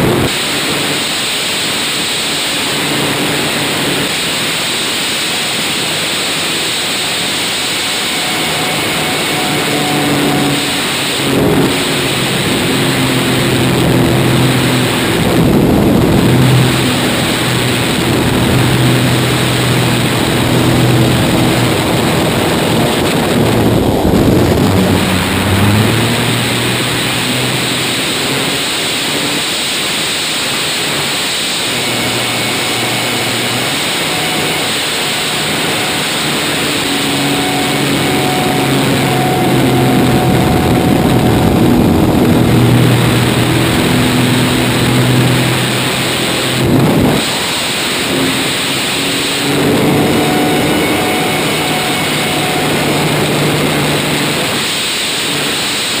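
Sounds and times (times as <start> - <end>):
propeller plane engine: 0.0 - 56.0
wind rushing over camera: 0.0 - 56.0.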